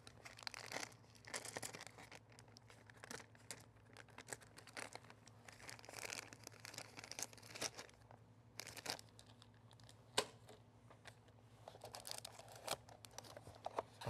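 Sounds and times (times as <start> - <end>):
plastic packaging crinkling and tearing: 0.0 - 10.0, 11.6 - 14.0.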